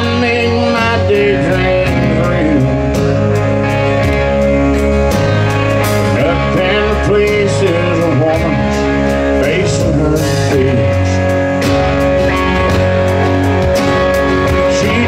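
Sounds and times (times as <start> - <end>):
bass guitar: 0.0 - 15.0
lead electric guitar bending notes: 0.0 - 15.0
strummed acoustic guitar: 0.0 - 15.0.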